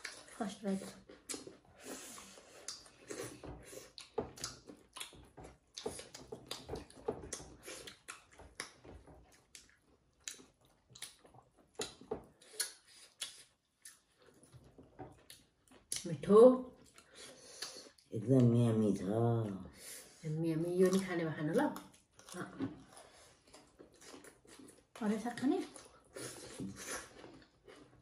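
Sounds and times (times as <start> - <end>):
people chewing: 0.0 - 28.0.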